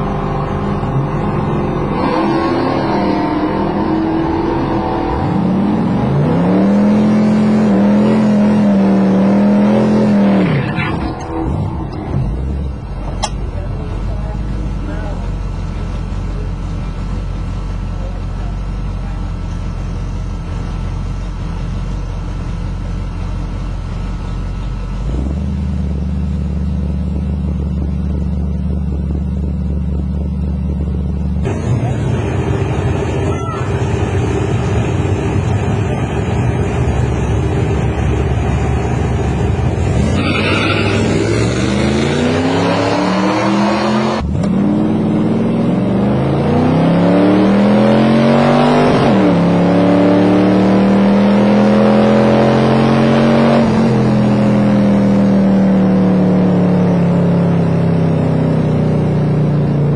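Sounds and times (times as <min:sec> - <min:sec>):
hot rod engine revving: 0:00.0 - 0:59.9.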